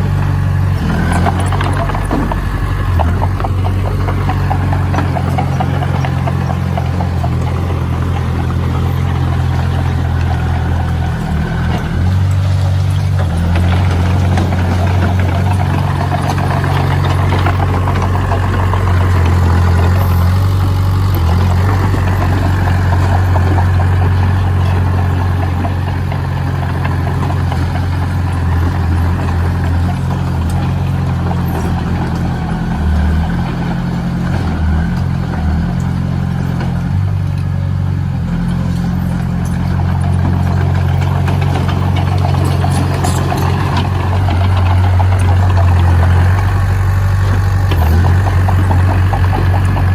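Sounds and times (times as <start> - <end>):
heavy machine engine droning: 0.0 - 49.9.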